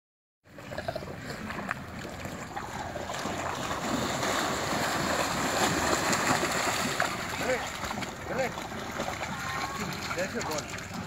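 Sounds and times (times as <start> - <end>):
dogs splashing through water: 0.5 - 11.0.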